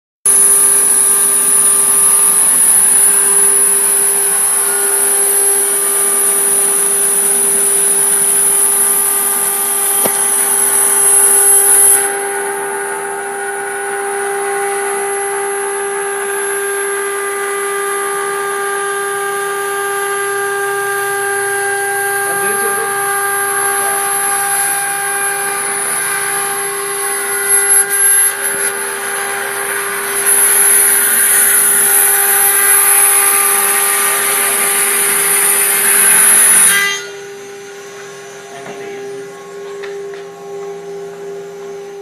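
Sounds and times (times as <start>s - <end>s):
low mechanical hum: 0.3s - 42.0s
router spindle whine: 0.3s - 42.0s.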